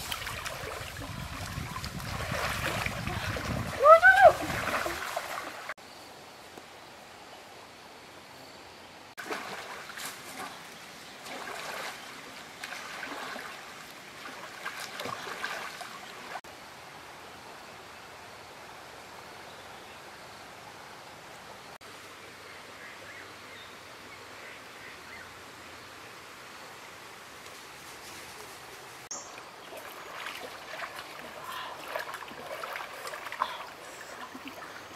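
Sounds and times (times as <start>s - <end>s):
stream water flowing: 0.0s - 6.4s, 9.1s - 34.9s.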